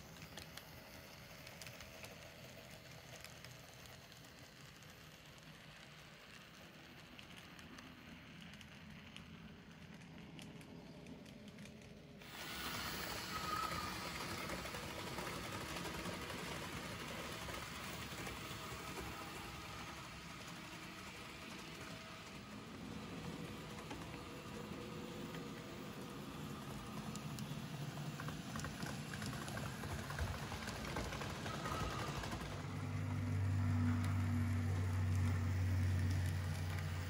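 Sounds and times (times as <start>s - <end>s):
model trains rumbling on track: 0.0s - 37.0s.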